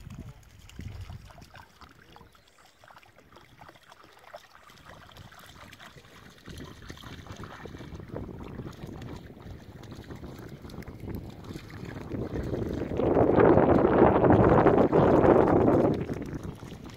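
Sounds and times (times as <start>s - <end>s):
dog paws splashing in water: 0.0s - 16.9s.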